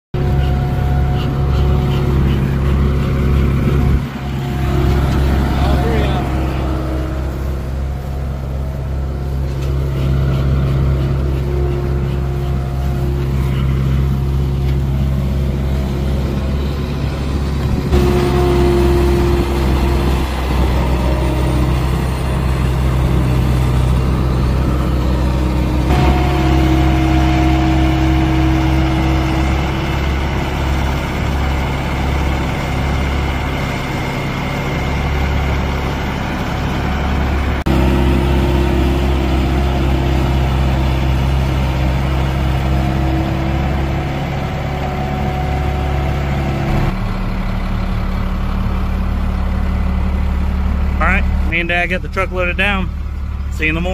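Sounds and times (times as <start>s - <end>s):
diesel engine running: 0.1s - 53.9s.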